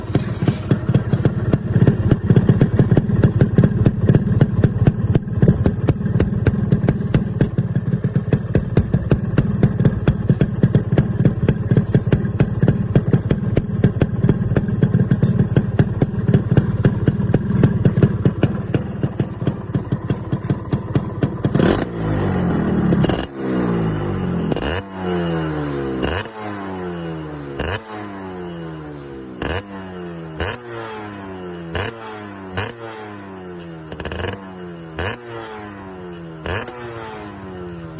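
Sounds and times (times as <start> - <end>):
motorcycle engine crackling: 0.0 - 26.3, 31.4 - 37.0
motorcycle throttle blips: 0.0 - 26.4, 30.4 - 37.9.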